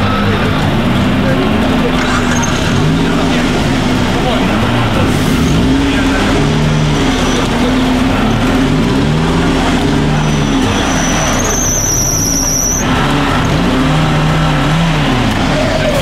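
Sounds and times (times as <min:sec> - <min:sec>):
engine revving under load: 0:00.0 - 0:16.0.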